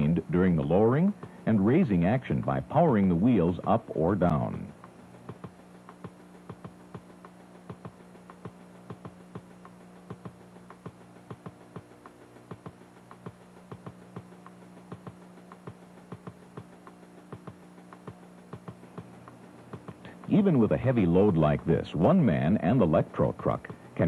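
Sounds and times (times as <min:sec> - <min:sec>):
electric motor hum: 0:00.0 - 0:24.0.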